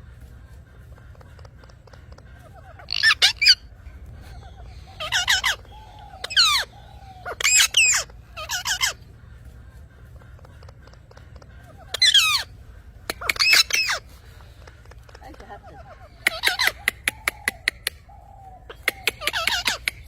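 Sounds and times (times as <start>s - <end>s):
parrots shrieking: 0.0s - 20.0s
soft low chirps: 0.0s - 20.0s.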